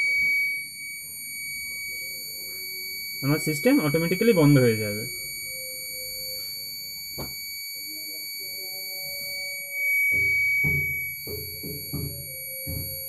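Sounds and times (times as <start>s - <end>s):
high-pitched alarm tone: 0.0s - 13.0s.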